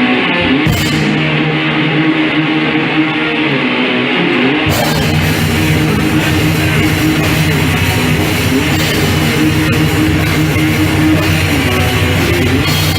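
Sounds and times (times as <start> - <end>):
distorted electric guitar riff: 0.0 - 12.9
metal band playing: 0.0 - 12.9.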